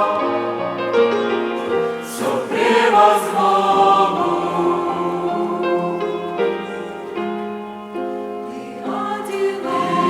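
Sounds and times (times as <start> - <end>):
choir singing: 0.0 - 10.0
piano chords: 0.0 - 10.0.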